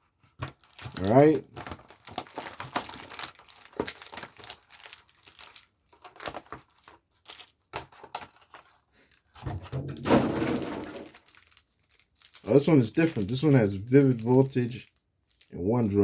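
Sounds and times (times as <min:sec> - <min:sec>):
foil wrapper crinkling and tearing: 0:00.4 - 0:09.4, 0:10.1 - 0:16.0.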